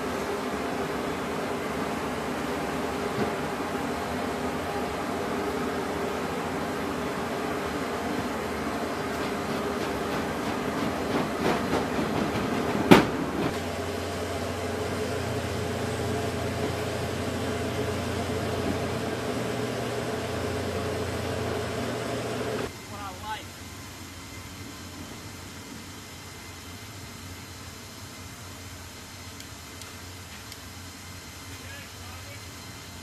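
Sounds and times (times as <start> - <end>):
steady machinery hum: 0.0 - 33.0.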